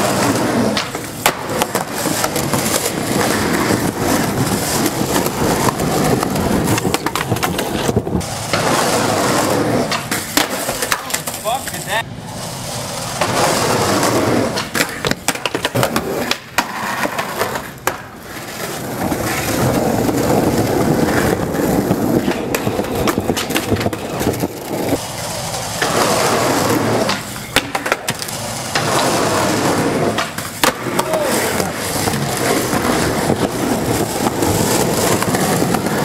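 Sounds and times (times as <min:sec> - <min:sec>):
skateboard clacking on ground: 0:00.0 - 0:36.0
skateboard wheels rolling on concrete: 0:00.0 - 0:36.0.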